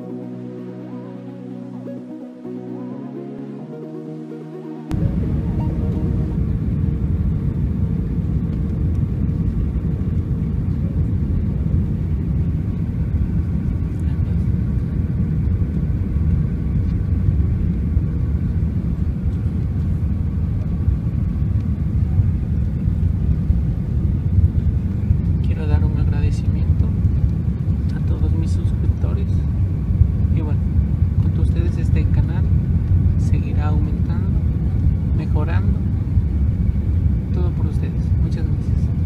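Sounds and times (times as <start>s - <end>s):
faint steady hum: 0.0s - 39.0s
jet engine rumble and rushing air: 4.9s - 39.0s.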